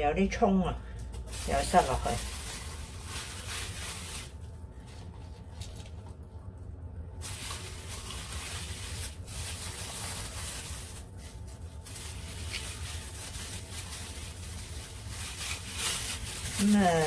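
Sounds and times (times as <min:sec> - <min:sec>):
plastic bag rustling: 0:01.2 - 0:06.3, 0:07.2 - 0:17.0.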